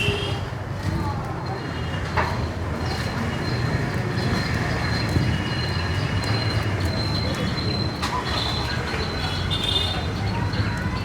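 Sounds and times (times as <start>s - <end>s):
street hubbub: 0.0s - 11.0s.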